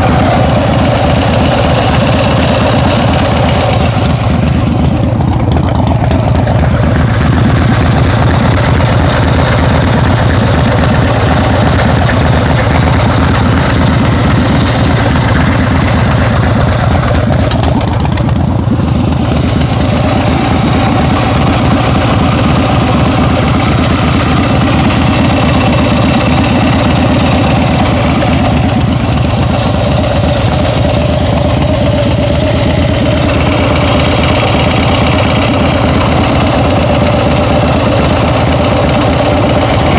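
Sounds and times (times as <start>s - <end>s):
engine idling with ticking: 0.0s - 39.9s.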